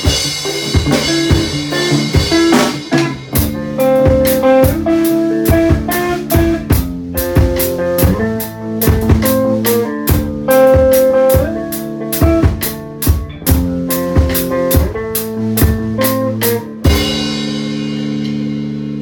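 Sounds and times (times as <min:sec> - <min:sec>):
drum kit beat: 0:00.0 - 0:19.0
sustained guitar notes: 0:00.0 - 0:19.0.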